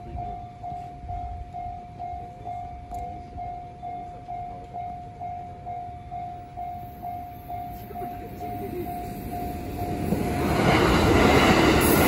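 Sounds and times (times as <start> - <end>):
level crossing warning bell: 0.0 - 12.0
train rumble: 0.0 - 12.0.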